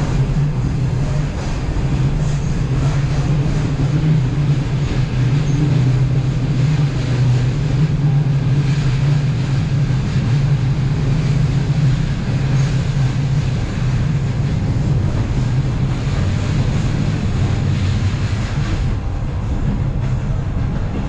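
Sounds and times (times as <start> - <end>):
train rumbling along track: 0.0 - 21.0.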